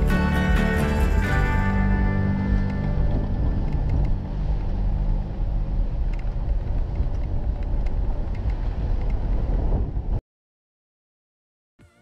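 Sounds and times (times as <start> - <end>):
off-road vehicle driving on gravel: 0.0 - 9.9.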